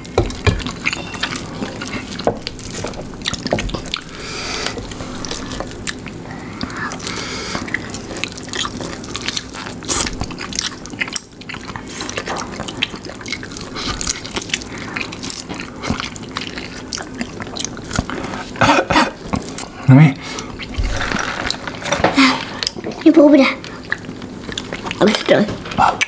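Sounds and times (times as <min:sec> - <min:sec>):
wet chewing and lip smacking: 0:00.0 - 0:18.6, 0:22.4 - 0:26.0.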